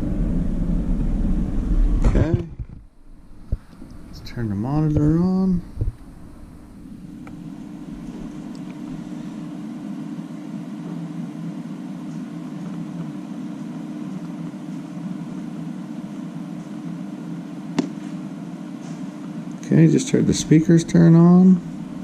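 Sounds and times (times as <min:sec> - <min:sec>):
computer fans whirring: 0:00.0 - 0:22.0.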